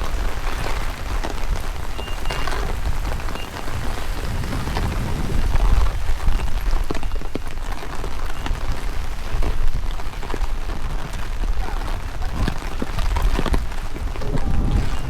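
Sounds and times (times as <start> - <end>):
raindrop clicks: 0.0 - 15.0
steady rain falling: 0.0 - 15.0
wind buffeting microphone: 0.0 - 15.0.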